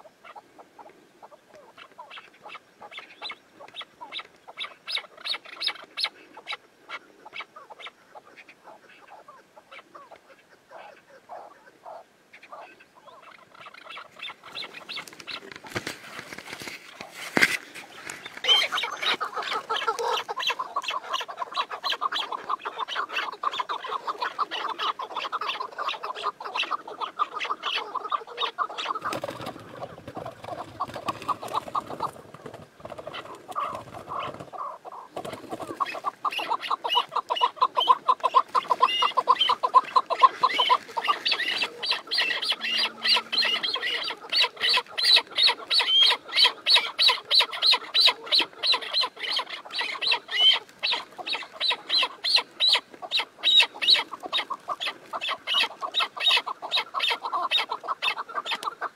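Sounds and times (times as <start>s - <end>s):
partridges calling: 0.2s - 16.2s, 16.9s - 58.8s.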